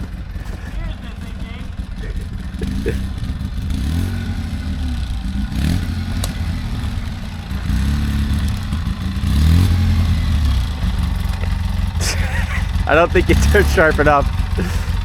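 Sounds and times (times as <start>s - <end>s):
utv engine revving: 0.0s - 15.0s.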